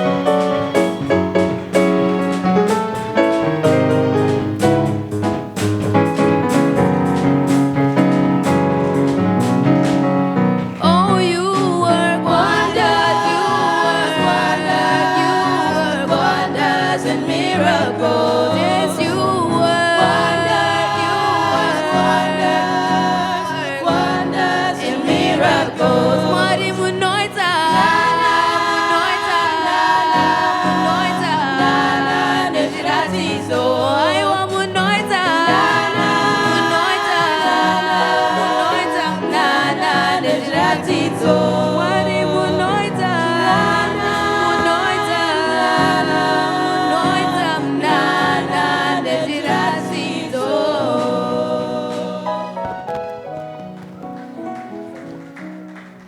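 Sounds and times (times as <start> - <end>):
choir singing gospel song: 0.0 - 55.5.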